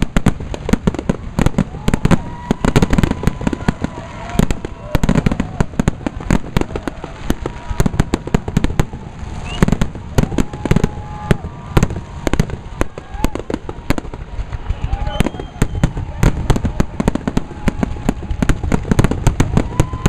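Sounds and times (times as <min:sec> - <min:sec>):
fireworks bangs and crackles: 0:00.0 - 0:20.0
fireworks whistling: 0:00.0 - 0:20.0.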